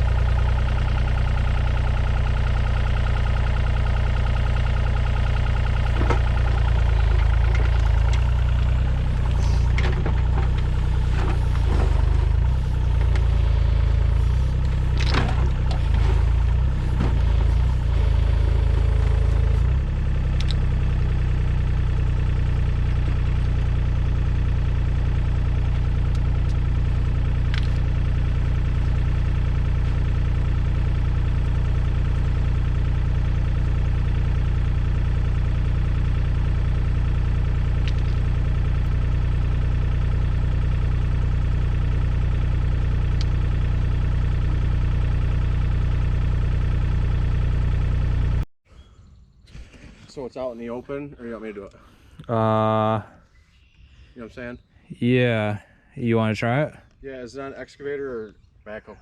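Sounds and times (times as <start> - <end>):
excavator diesel engine running: 0.0 - 48.4, 51.7 - 53.2.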